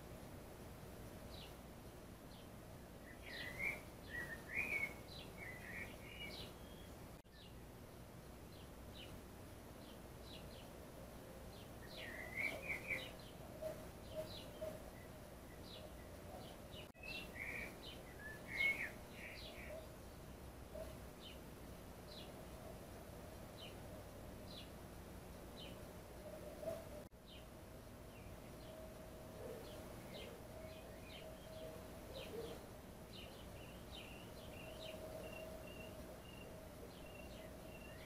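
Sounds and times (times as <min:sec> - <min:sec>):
faint background hiss: 0:00.0 - 0:38.0
small birds chirping: 0:01.2 - 0:07.7, 0:08.4 - 0:38.0.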